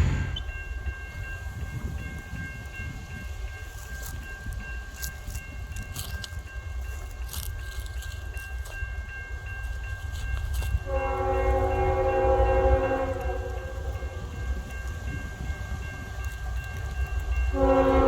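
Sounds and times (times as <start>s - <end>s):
train rumbling low: 0.0s - 18.0s.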